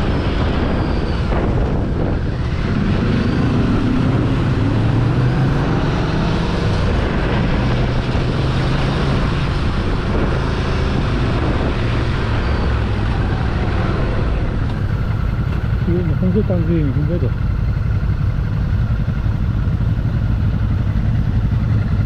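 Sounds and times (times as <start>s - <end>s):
wind rushing over microphone: 0.0s - 18.1s
motorcycle engine cruising: 0.0s - 22.0s.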